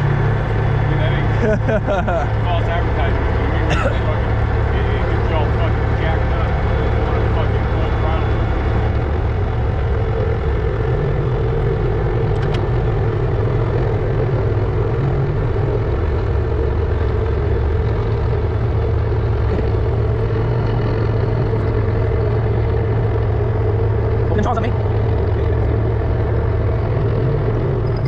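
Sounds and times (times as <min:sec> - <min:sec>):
vibratory pile hammer droning: 0:00.0 - 0:28.0.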